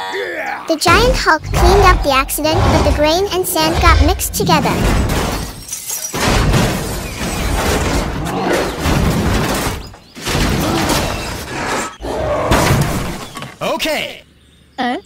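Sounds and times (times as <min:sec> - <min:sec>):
crashing and rumbling: 0:00.9 - 0:13.6.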